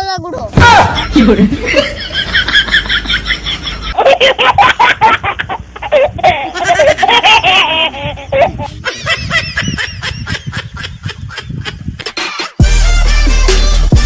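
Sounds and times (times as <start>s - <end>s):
person laughing loudly: 0.6s - 12.6s.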